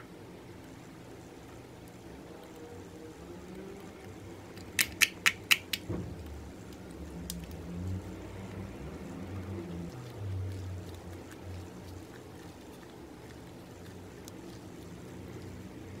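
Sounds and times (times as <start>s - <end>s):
slime squishing: 0.6s - 16.0s.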